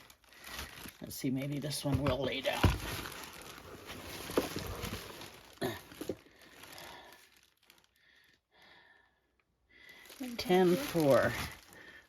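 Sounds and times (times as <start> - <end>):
potato sack rustling: 0.0 - 7.6, 9.9 - 12.0.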